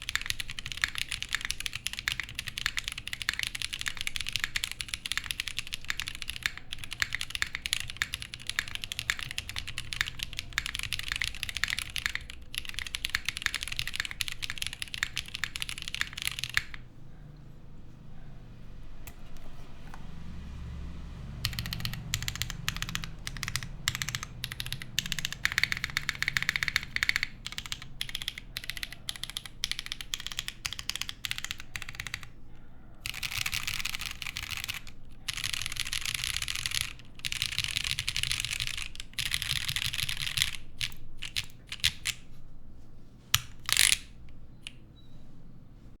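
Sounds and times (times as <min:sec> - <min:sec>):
mechanical keyboard keys clacking: 0:00.0 - 0:16.8, 0:21.4 - 0:32.3, 0:33.0 - 0:42.2, 0:43.3 - 0:44.8.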